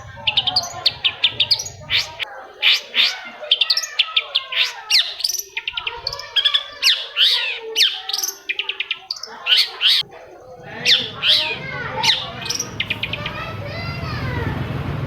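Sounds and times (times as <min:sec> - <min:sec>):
bird song with chirps and trills: 0:00.0 - 0:15.0.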